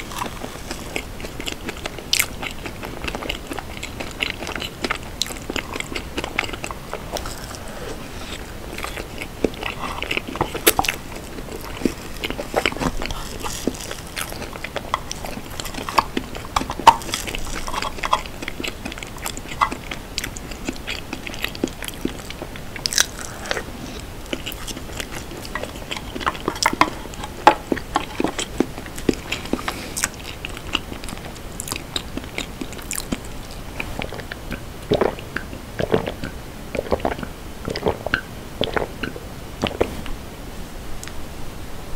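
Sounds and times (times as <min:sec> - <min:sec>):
wet chewing and mouth sounds: 0:00.0 - 0:40.2.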